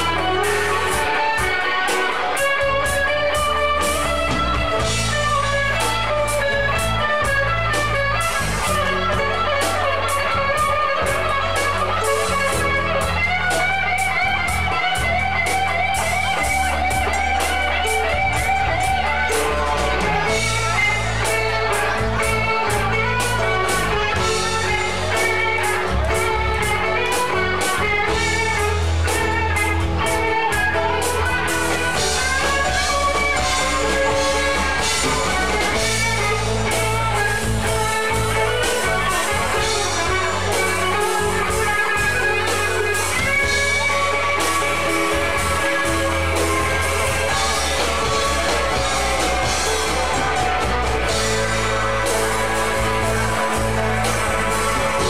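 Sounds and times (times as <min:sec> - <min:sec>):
drum kit: 0:00.0 - 0:55.0
electric guitar: 0:00.0 - 0:55.0
keyboard: 0:00.0 - 0:55.0.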